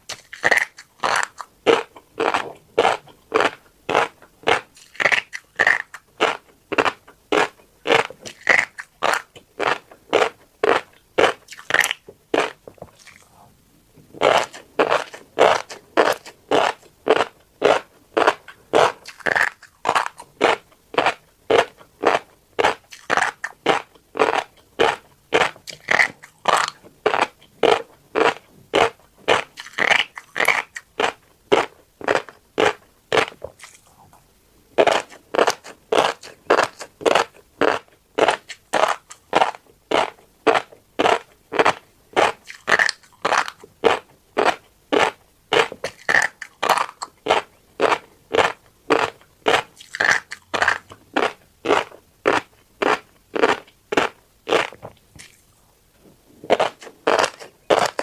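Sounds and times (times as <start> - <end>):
chewing seeds crunching: 0.1 - 13.4, 14.2 - 34.1, 34.8 - 55.6, 56.4 - 58.0.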